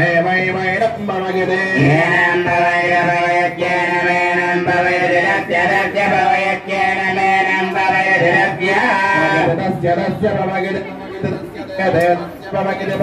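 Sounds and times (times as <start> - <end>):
person chanting: 0.0 - 13.0.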